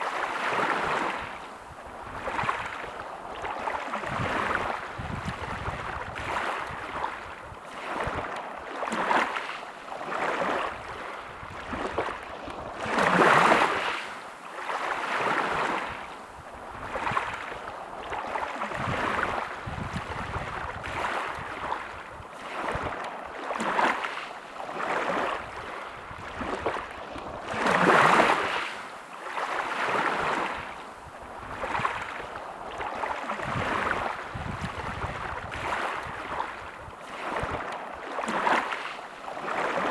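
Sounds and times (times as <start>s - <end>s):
sea waves lapping: 0.0s - 39.9s.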